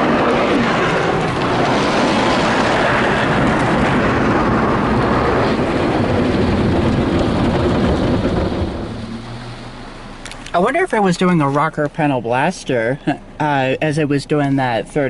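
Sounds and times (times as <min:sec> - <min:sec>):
car wash spraying water: 0:00.0 - 0:15.0.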